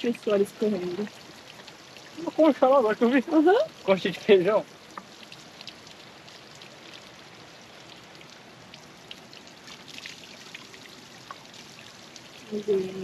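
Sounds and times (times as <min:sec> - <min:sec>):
drips and clicks: 0:00.0 - 0:13.0
water splashing onto rocks: 0:00.0 - 0:13.0.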